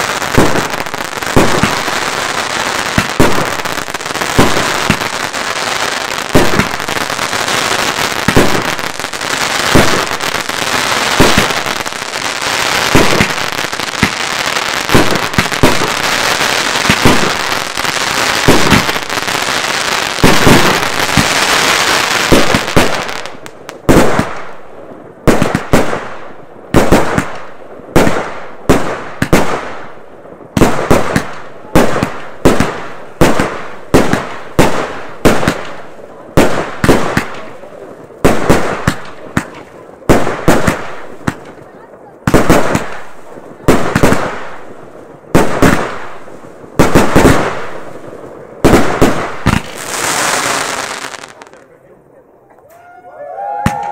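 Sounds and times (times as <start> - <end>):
firework bangs: 0.0 - 24.6, 25.2 - 51.6, 53.5 - 53.9
firework crackle of bursting stars: 0.0 - 51.6.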